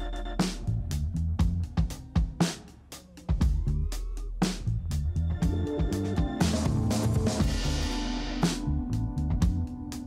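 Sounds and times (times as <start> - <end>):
music with drums and bass: 0.0 - 10.0.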